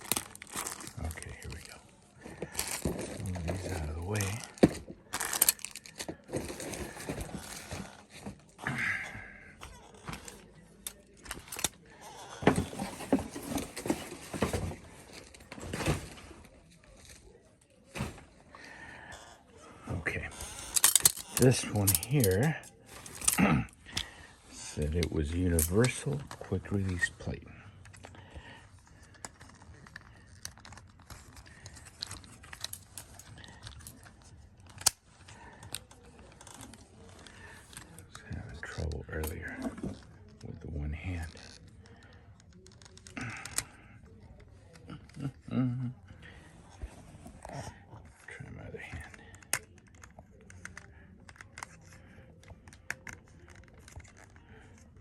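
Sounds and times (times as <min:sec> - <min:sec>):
plastic parts clicking and rattling: 0:00.0 - 0:08.6, 0:09.6 - 0:17.2, 0:20.1 - 0:45.5, 0:46.2 - 0:55.0.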